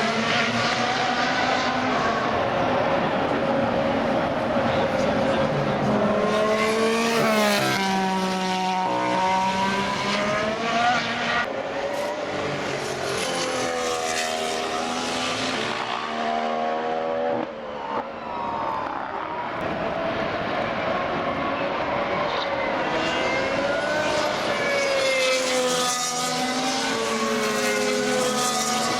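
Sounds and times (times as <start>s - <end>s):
racing car engines passing: 0.0s - 28.9s.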